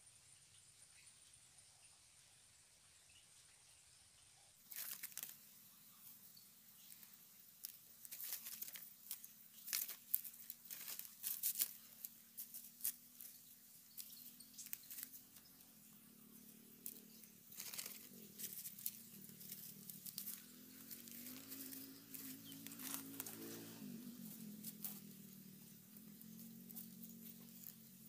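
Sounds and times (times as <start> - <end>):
faint low hum: 0.0 - 28.0
dry grass and leaves rustling: 4.6 - 28.0.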